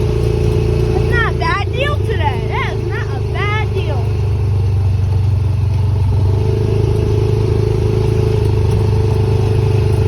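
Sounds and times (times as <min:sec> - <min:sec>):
atv engine droning: 0:00.0 - 0:10.0.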